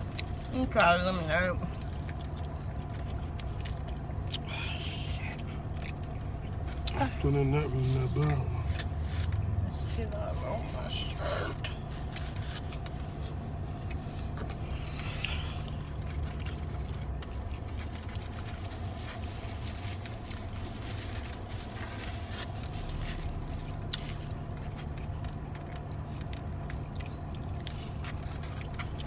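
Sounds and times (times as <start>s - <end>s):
car idling hum: 0.0s - 29.0s.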